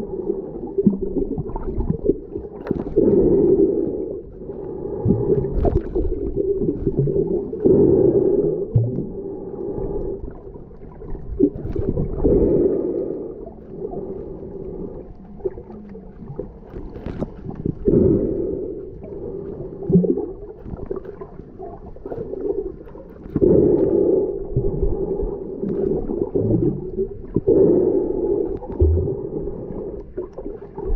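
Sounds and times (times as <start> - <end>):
muffled underwater rushing: 0.0 - 30.9.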